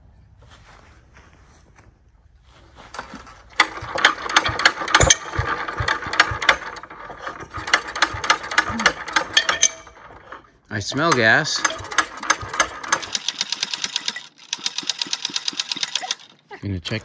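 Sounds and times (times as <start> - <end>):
engine cranked by hand clanking: 2.9 - 17.0.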